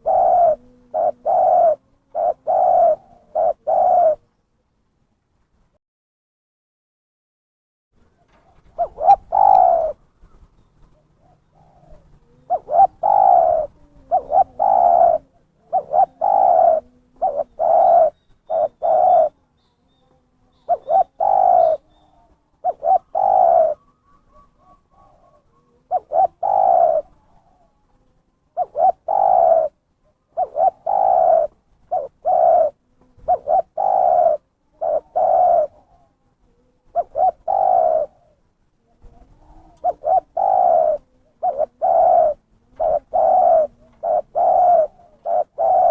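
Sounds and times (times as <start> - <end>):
dove cooing: 0.0 - 4.3, 8.0 - 45.9.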